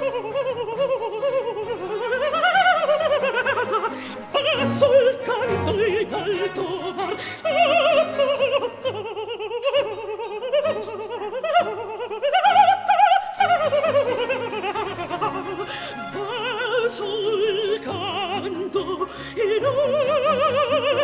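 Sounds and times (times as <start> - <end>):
woman singing opera: 0.0 - 21.0.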